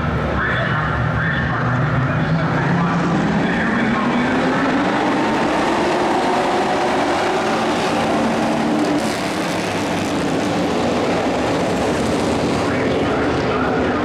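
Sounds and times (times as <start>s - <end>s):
race truck engines passing: 0.0s - 14.0s.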